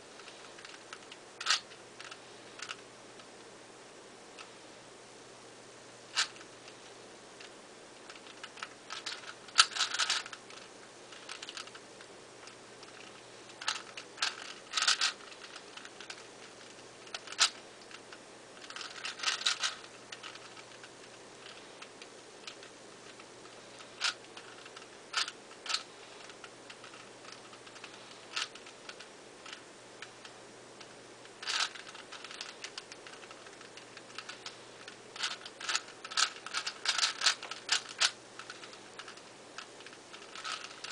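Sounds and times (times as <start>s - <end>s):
plastic puzzle cube clacking: 0.2s - 2.8s, 6.1s - 6.5s, 7.4s - 11.8s, 12.4s - 18.0s, 18.6s - 40.9s.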